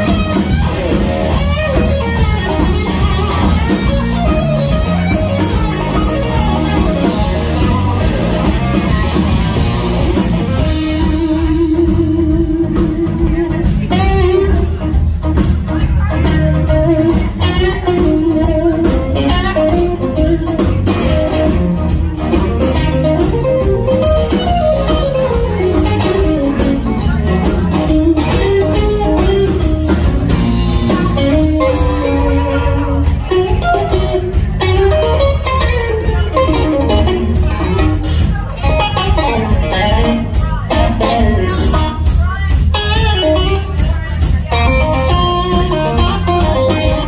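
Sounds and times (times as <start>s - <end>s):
bass guitar: 0.0s - 47.0s
drums with cymbal hits: 0.0s - 47.0s
electric guitar lead: 0.0s - 47.0s.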